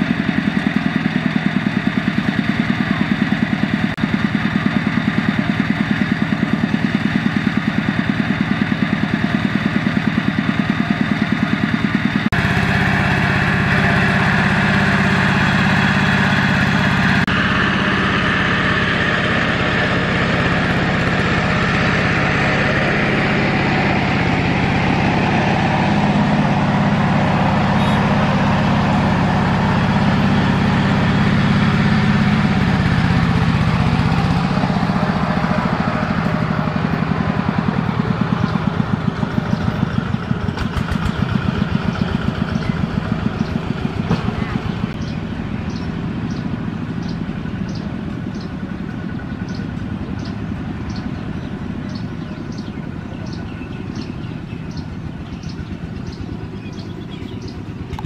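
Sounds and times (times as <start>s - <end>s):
diesel tractor engine chugging: 0.0s - 58.0s.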